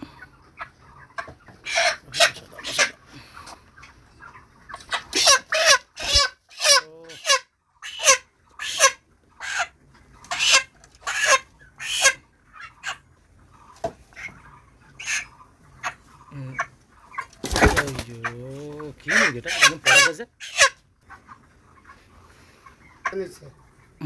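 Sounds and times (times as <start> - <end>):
chickens squawking: 0.0 - 24.0.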